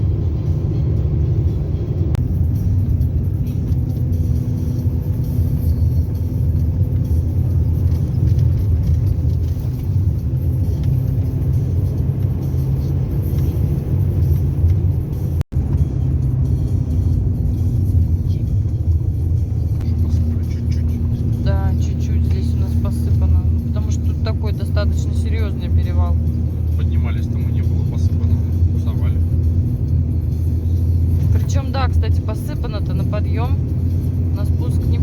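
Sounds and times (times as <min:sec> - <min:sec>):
car driving on snowy road: 0:00.0 - 0:35.0.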